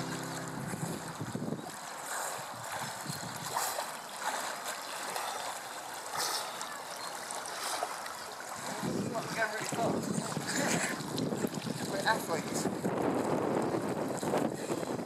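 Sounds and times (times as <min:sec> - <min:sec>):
swimmers splashing: 0:00.0 - 0:12.5
water washing: 0:00.0 - 0:12.8.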